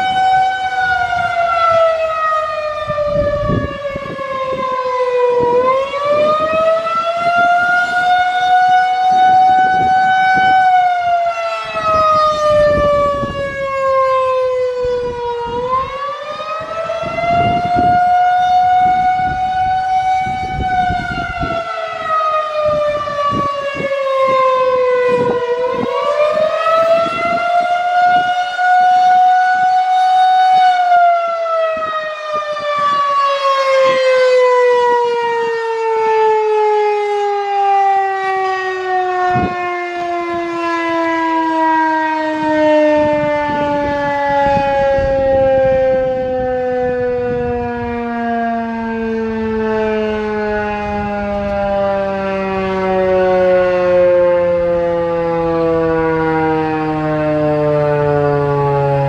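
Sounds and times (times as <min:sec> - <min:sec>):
wavering warning siren: 0:00.0 - 0:59.0.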